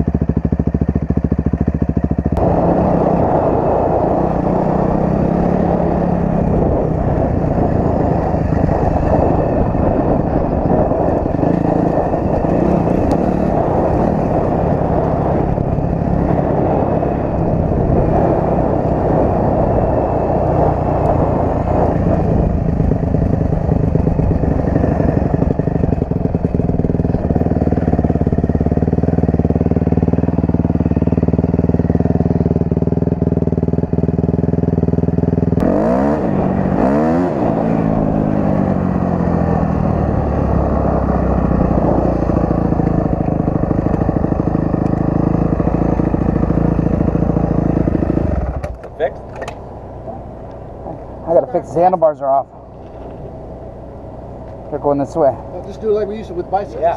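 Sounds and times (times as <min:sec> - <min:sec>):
dirt bike engine running: 0:00.0 - 0:56.9
rough noisy rumble: 0:00.0 - 0:56.9.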